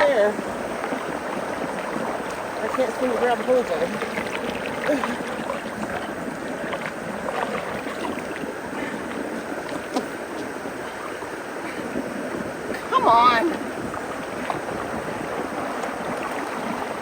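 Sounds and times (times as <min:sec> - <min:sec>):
floodwater rushing into culvert: 0:00.0 - 0:17.0
small water splashes: 0:00.0 - 0:17.0.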